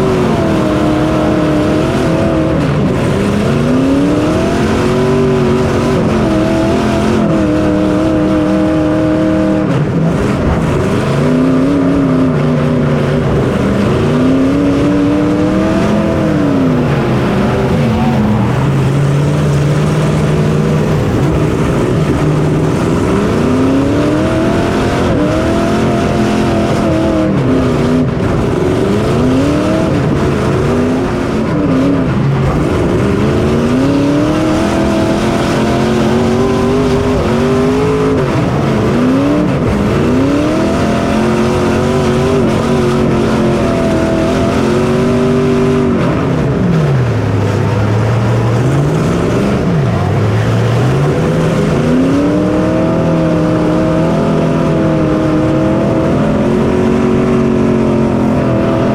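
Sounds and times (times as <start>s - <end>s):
race car engine at speed: 0.0s - 58.9s.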